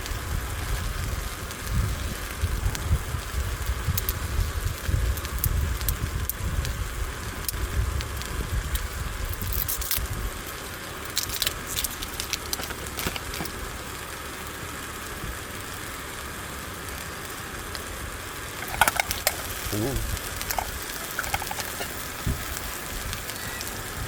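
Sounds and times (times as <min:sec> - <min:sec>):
wind rumbling on microphone: 0:00.0 - 0:13.8, 0:18.0 - 0:24.0
steak sizzling in a pan: 0:00.0 - 0:24.0.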